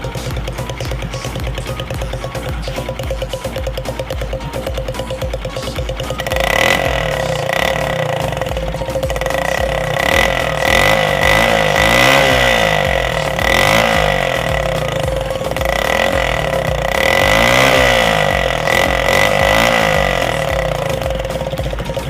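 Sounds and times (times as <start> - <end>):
loud engine revving: 0.0 - 22.0
steady high whine: 0.0 - 22.0.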